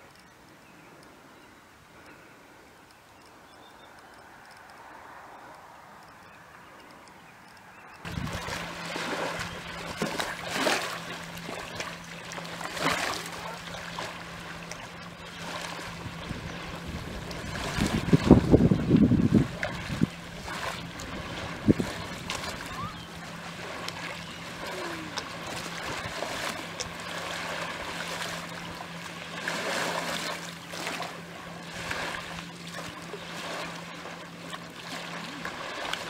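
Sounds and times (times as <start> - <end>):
small waves lapping: 0.0 - 36.0
steady low hum: 0.0 - 36.0
light water splashes: 1.9 - 36.0.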